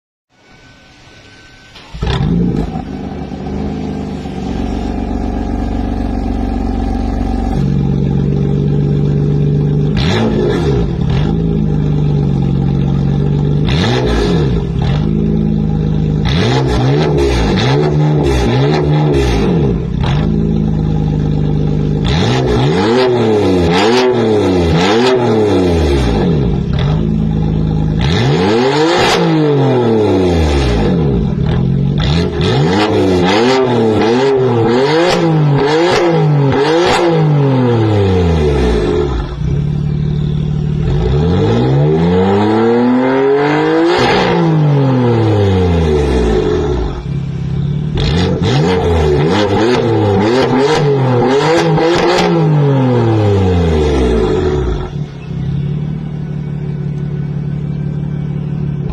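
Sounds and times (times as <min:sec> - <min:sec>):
car engine idling: 0:00.4 - 0:17.7, 0:19.2 - 0:24.8, 0:25.4 - 0:28.8, 0:29.8 - 0:36.8, 0:37.4 - 0:41.9, 0:44.7 - 0:58.9
car engine revving: 0:00.4 - 0:58.9
exhaust crackles: 0:01.7 - 0:58.9.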